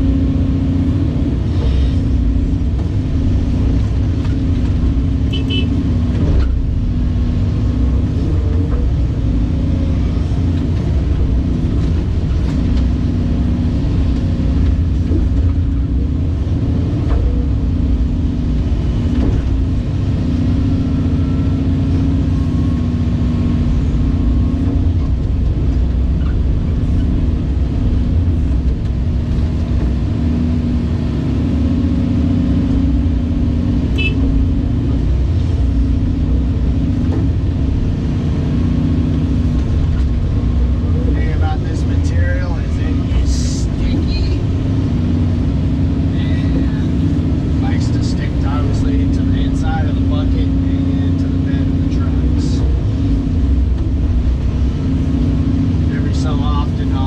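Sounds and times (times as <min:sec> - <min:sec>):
excavator diesel engine rumbling: 0:00.0 - 0:57.0.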